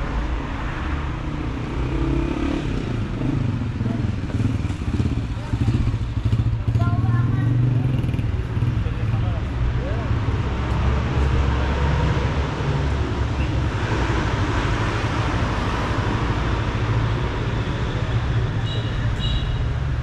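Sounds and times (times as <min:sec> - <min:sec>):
rumble of passing vehicles: 0:00.0 - 0:20.0.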